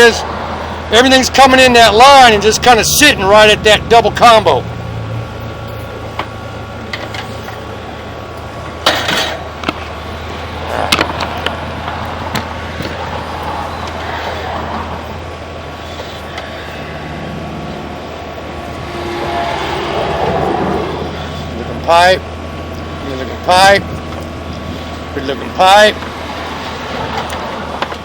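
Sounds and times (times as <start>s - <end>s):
low engine-like hum: 0.0s - 28.0s.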